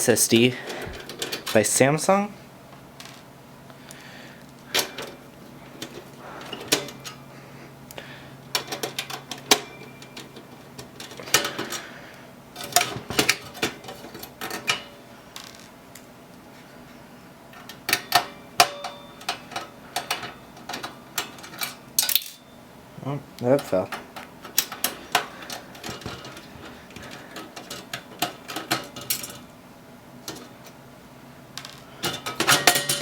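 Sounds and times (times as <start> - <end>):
hands handling computer parts: 0.2 - 1.8, 2.7 - 16.6, 17.5 - 22.4, 23.4 - 29.5, 30.2 - 30.8, 31.5 - 33.0.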